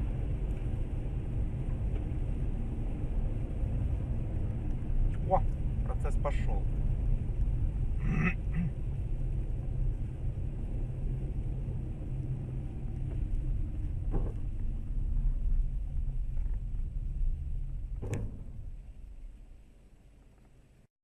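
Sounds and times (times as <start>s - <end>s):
car engine and road rumble: 0.0s - 20.9s.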